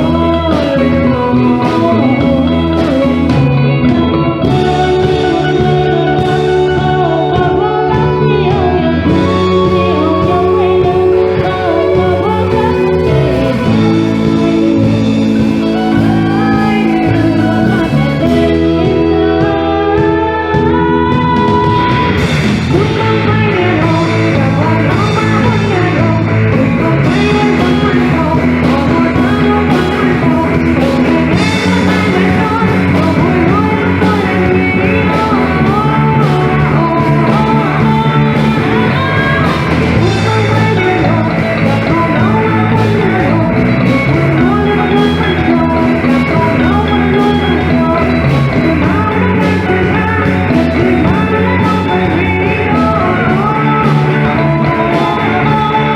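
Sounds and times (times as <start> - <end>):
person singing: 0.0 - 55.9
rock band playing: 0.0 - 55.9.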